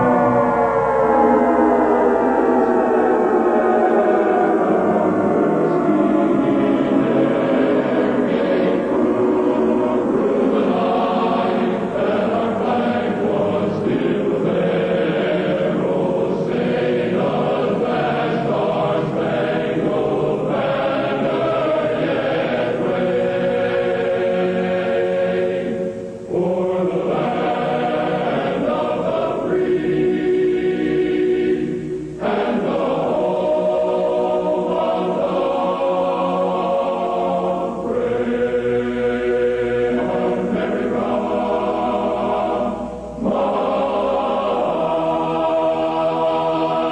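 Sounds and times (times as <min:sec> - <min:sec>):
choir singing sustained chords: 0:00.0 - 0:46.9.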